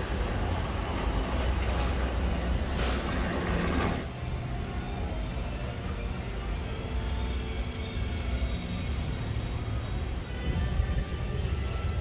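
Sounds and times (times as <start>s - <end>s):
diesel machinery engine rumbling: 0.0s - 12.0s.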